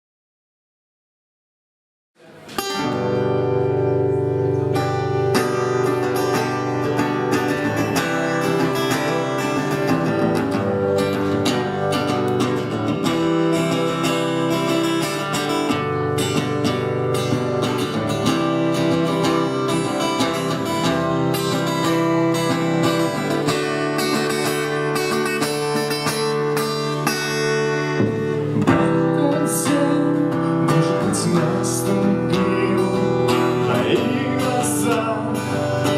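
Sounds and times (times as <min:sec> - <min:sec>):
acoustic guitar playing: 0:02.2 - 0:35.9.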